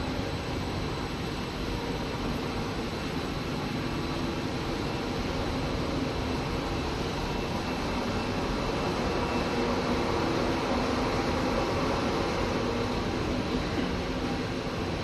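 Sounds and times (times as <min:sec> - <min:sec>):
faint high whine: 0:00.0 - 0:15.0
production line hum and hiss: 0:00.0 - 0:15.0.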